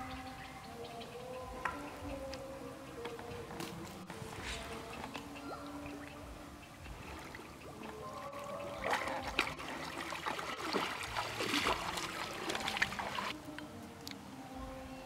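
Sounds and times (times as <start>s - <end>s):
faint steady tones: 0.0s - 15.0s
water splashing and trickling: 0.0s - 15.0s.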